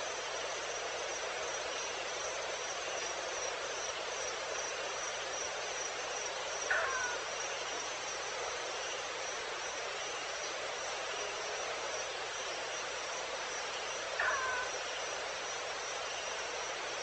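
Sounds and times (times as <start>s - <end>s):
constant hiss: 0.0s - 17.0s
insect chirping: 0.0s - 17.0s.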